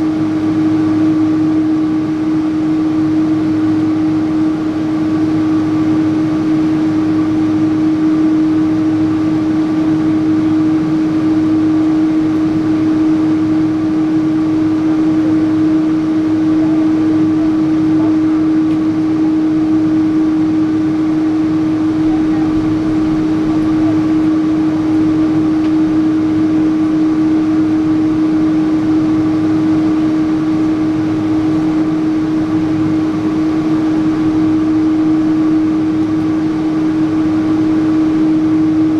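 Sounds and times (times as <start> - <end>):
airliner cabin engine hum: 0.0 - 38.9.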